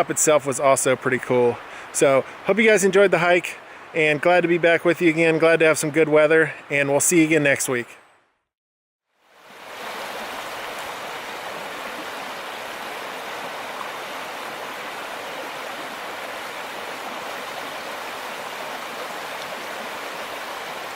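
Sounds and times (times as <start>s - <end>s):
running water rushing: 0.0s - 7.6s, 9.2s - 20.9s.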